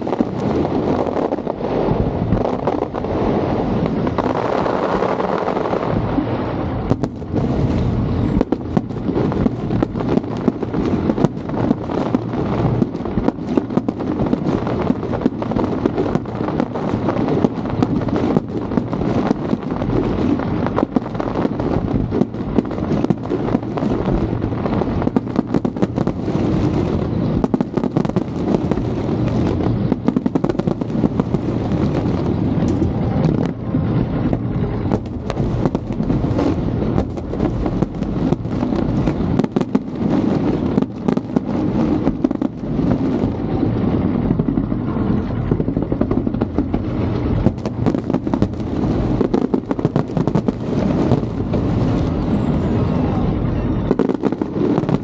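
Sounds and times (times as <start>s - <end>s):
fireworks booms and crackles: 0.0s - 55.0s
steady low rumble: 0.0s - 55.0s.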